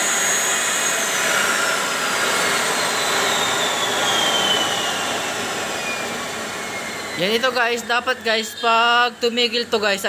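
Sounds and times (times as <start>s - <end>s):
turbocharger whine spinning down: 0.0s - 10.0s.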